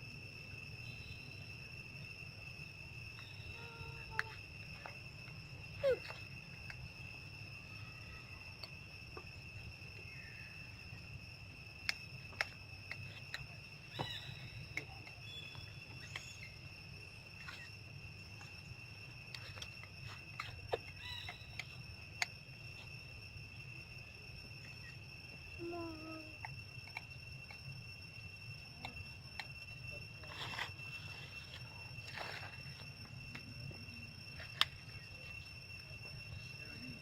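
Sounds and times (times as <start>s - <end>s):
high-pitched insect drone: 0.0s - 37.0s.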